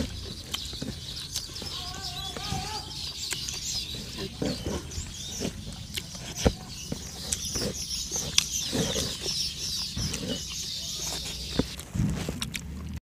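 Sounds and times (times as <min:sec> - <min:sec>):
birds chirping: 0:00.0 - 0:13.0
mouth clicks: 0:00.0 - 0:13.0
people chewing and lip-smacking: 0:00.0 - 0:13.0.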